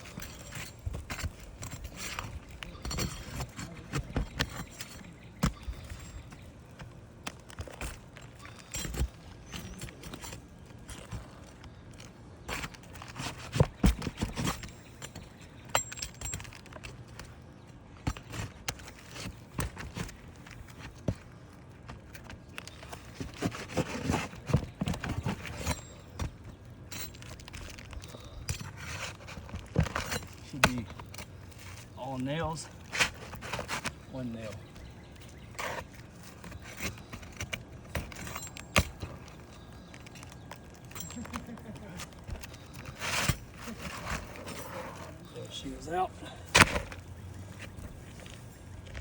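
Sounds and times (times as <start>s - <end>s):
tool scraping roof shingles: 0.0s - 49.0s.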